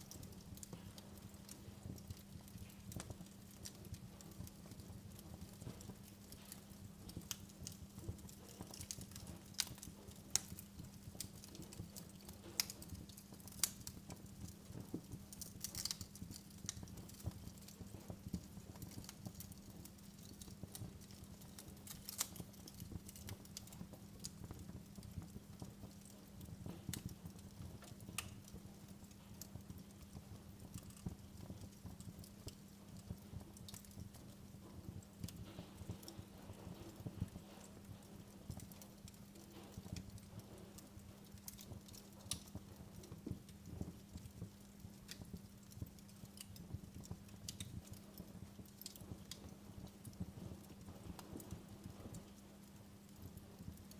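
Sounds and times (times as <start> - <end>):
faint steady hum: 0.0 - 53.9
wood fire crackling: 0.0 - 53.9.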